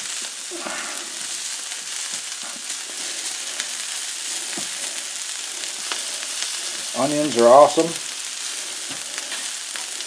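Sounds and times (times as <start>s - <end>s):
beef and onions sizzling on griddle: 0.0s - 10.0s.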